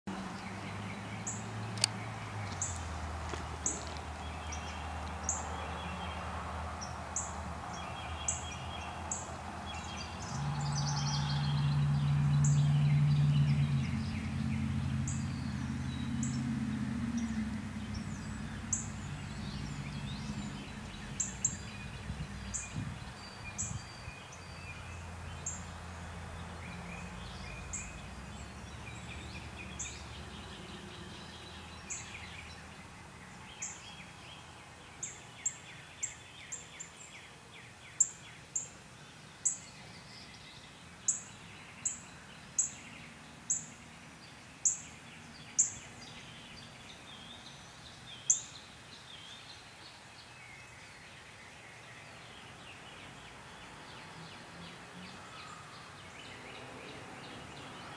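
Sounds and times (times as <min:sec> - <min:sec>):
faint birdsong: 0:00.1 - 0:57.9.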